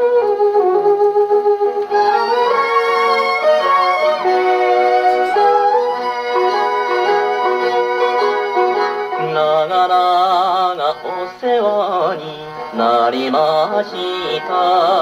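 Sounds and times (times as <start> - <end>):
melody with wide vibrato: 0.0 - 15.0
old record of a popular song: 0.0 - 15.0
sustained chords: 0.0 - 15.0.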